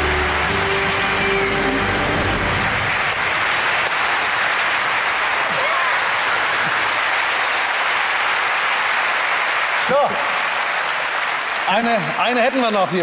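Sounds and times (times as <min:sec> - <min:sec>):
studio audience applauding: 0:00.0 - 0:13.0.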